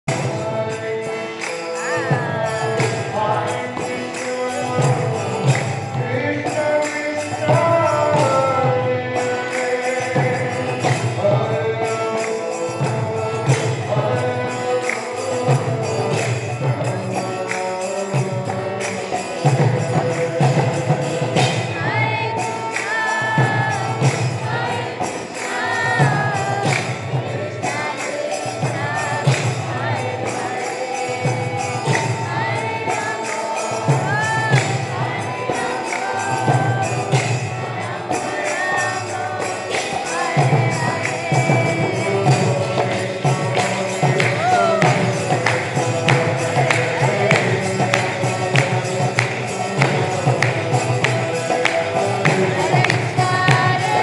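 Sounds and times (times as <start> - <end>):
voices singing a chant: 0.1 - 54.0.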